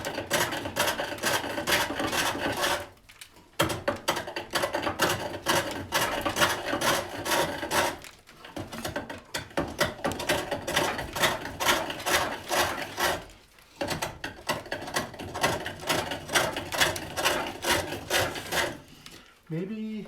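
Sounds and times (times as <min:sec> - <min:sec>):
hook tool scraping wood: 0:00.0 - 0:03.0, 0:03.6 - 0:19.3.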